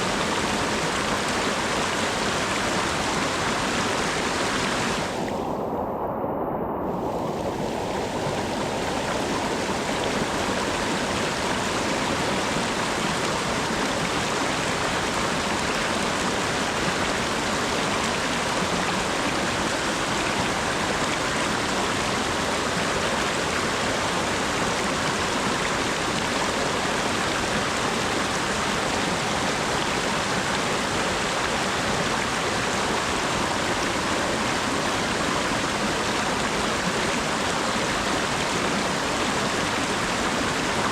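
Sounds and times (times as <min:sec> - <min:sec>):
steady rain falling: 0:00.0 - 0:05.6, 0:06.8 - 0:40.9.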